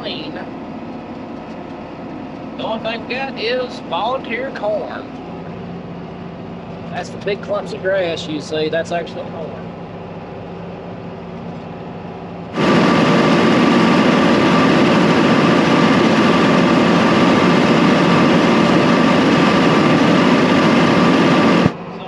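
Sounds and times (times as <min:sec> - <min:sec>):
steady whine: 0:00.0 - 0:22.0
tractor cab hum: 0:00.0 - 0:22.0
tractor engine running: 0:00.0 - 0:22.0.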